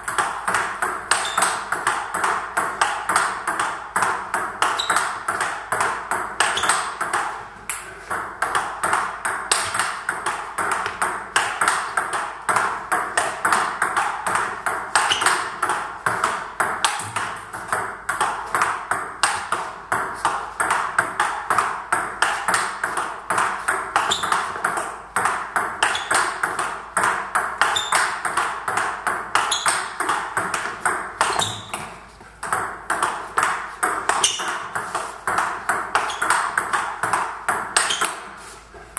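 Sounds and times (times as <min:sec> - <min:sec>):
ball bouncing on table: 0:00.0 - 0:38.4
ball clicking off paddles: 0:00.0 - 0:38.7.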